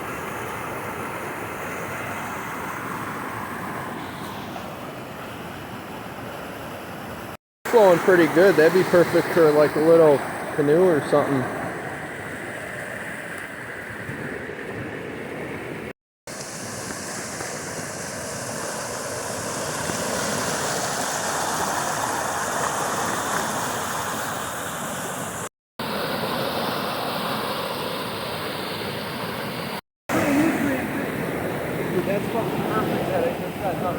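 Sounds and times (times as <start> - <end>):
creek water rushing: 0.0 - 33.9.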